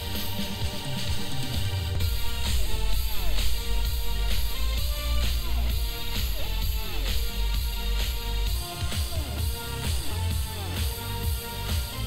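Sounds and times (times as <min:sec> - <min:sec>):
heavy bass: 0:00.0 - 0:12.0
song through a speaker: 0:00.0 - 0:12.0.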